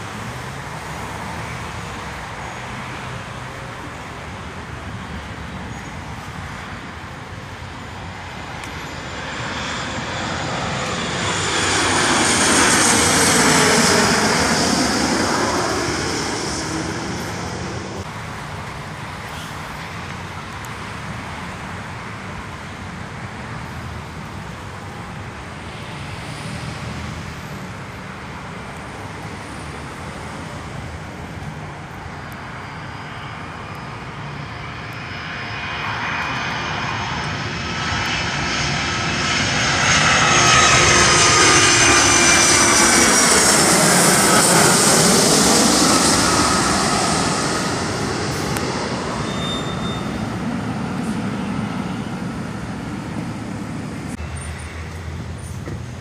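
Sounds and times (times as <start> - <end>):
jet passing overhead: 0.0 - 55.7
jet engine high whine: 0.0 - 56.0.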